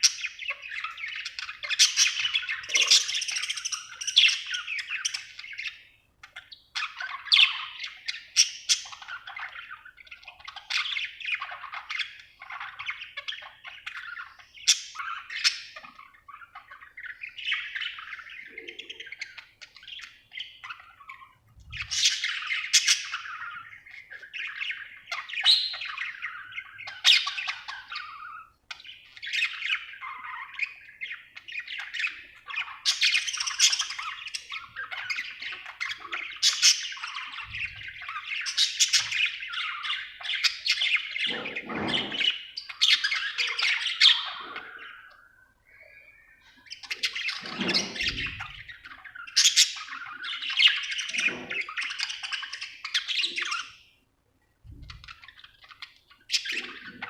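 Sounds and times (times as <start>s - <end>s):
budgerigar chirping and chattering: 0.0s - 53.9s, 54.7s - 57.0s.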